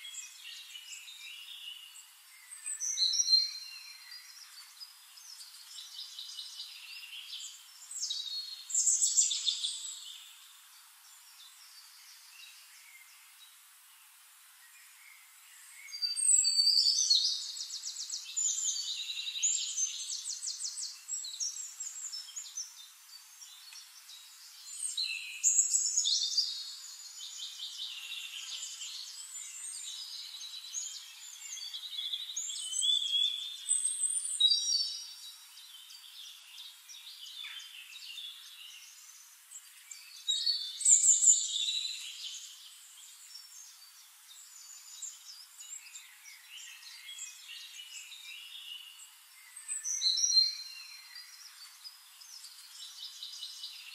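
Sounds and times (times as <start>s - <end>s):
soft bird chirping: 0.0s - 53.9s.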